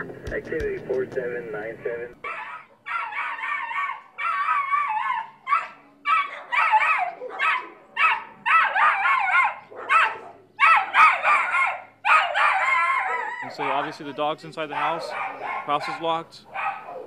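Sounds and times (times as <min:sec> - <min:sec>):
dog barking and howling: 0:01.8 - 0:17.0.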